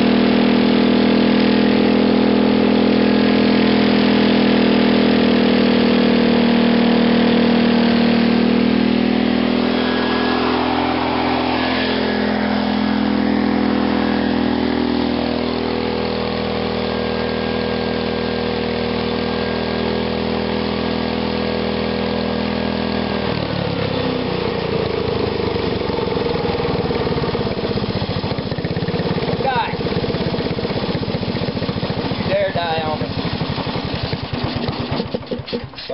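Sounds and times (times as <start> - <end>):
small gasoline engine running: 0.0 - 35.9.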